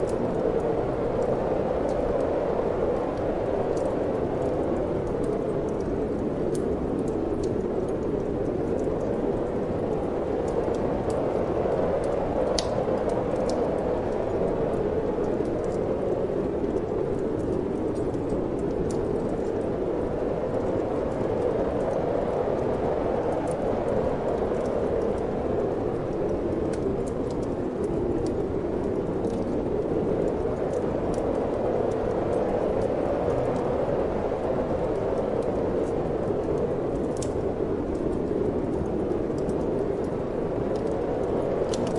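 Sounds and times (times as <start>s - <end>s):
wind blowing: 0.0s - 41.9s
wood fire crackling: 0.0s - 41.9s.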